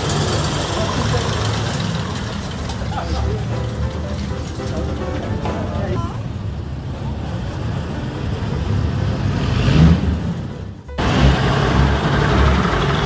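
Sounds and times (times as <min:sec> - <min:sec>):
engine rumble: 0:00.0 - 0:13.0
vintage car engines running: 0:00.0 - 0:13.0.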